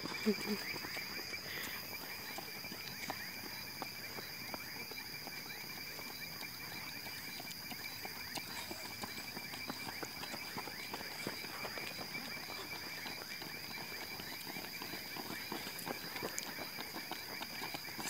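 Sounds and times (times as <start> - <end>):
running footsteps on asphalt: 0.0 - 18.0.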